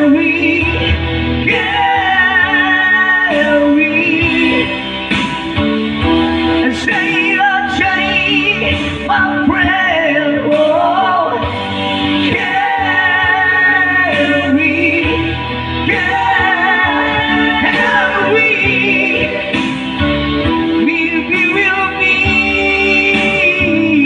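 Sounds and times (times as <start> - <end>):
person singing into a microphone: 0.0 - 5.1, 6.5 - 24.0
electronic keyboard chords: 0.0 - 24.0.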